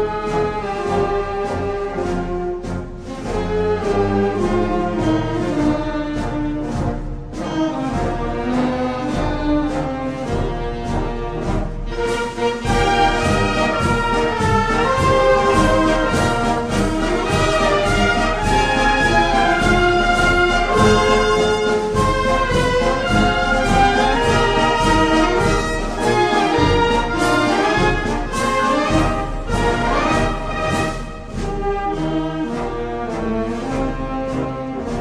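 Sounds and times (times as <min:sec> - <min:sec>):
orchestral music with brass: 0:00.0 - 0:35.0.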